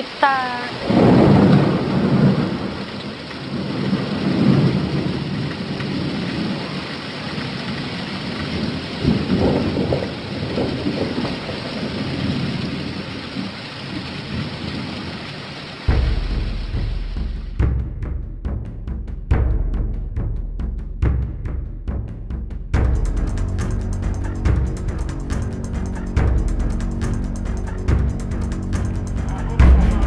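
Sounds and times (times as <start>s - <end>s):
heavy rain: 0.0s - 17.7s, 22.7s - 30.0s
thunder rumbling: 0.6s - 18.5s, 22.7s - 30.0s.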